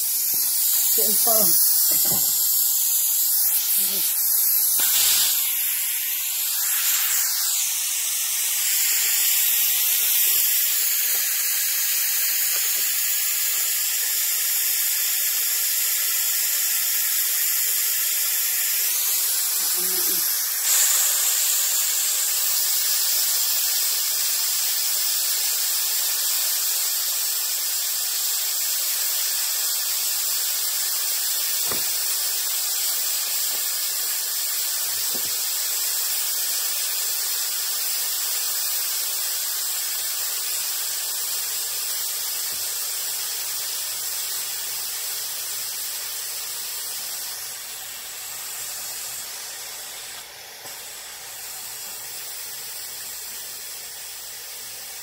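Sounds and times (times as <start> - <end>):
steam hissing from pressure cooker: 0.0 - 55.0.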